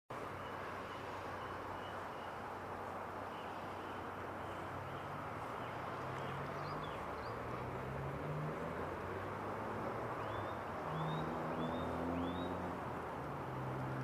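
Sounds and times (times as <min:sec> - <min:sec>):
river rushing: 0:00.2 - 0:14.0.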